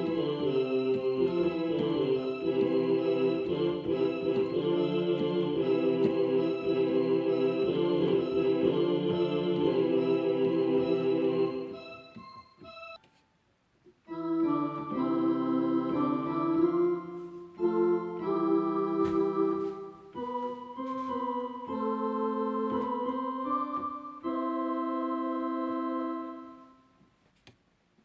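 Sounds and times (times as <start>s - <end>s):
electronic keyboard organ chords: 0.0s - 13.1s, 14.0s - 26.9s.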